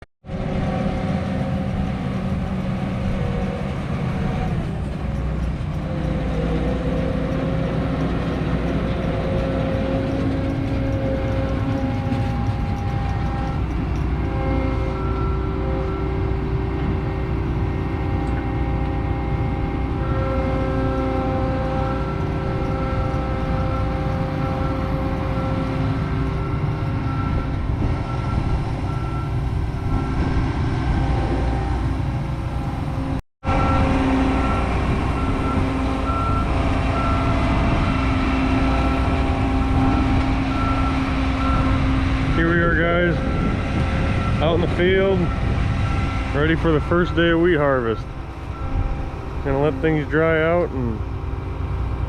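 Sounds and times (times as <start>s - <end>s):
diesel engine rumbling: 0.0s - 52.0s
steady whining tones: 0.3s - 52.0s.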